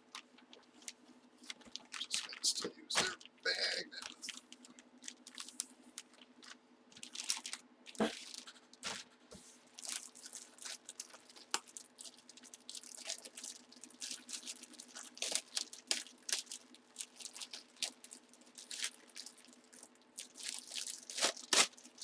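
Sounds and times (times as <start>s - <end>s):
faint steady hum: 0.0s - 22.0s
plastic packaging crinkling: 0.0s - 22.0s.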